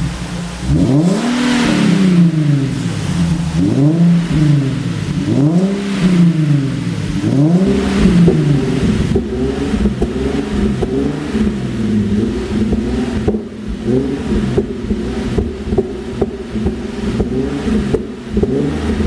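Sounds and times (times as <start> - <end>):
car exhaust revving: 0.0 - 19.0
exhaust pops and crackles: 0.0 - 19.0.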